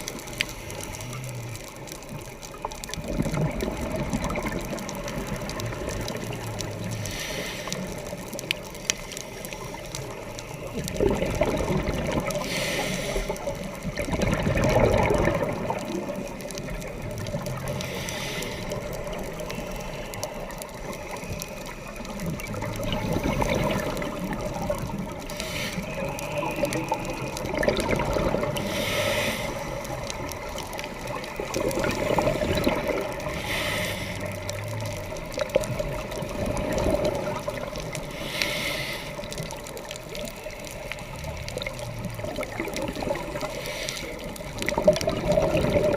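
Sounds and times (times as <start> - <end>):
exhaled air bubbles: 0.0 - 45.9
steady underwater hiss: 0.0 - 45.9.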